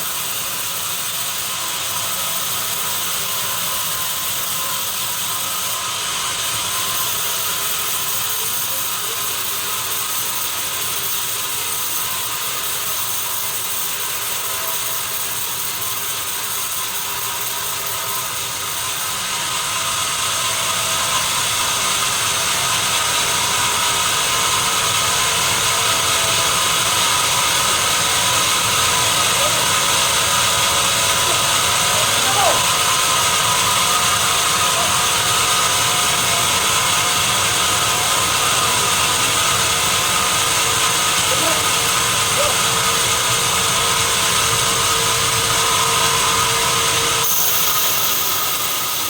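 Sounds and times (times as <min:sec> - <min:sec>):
sawmill saw running: 0:00.0 - 0:49.0.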